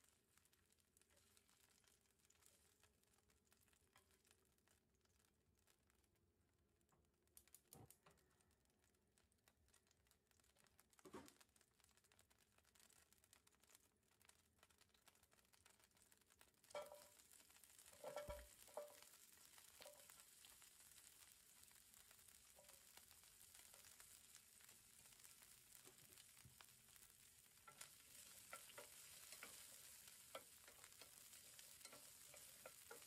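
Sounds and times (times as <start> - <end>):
hot oil crackling in a pan: 0.0 - 33.0.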